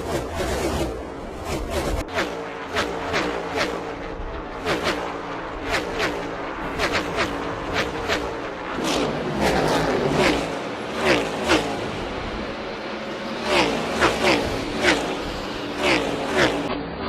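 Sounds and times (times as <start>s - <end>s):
race car engines passing by: 0.0s - 17.0s.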